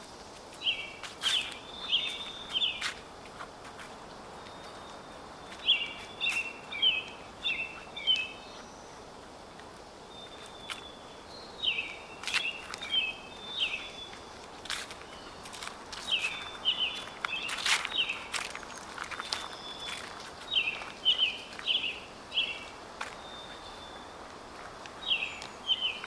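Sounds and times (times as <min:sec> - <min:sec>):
songbird chirping: 0:00.0 - 0:26.0
steady outdoor hiss: 0:00.0 - 0:26.0.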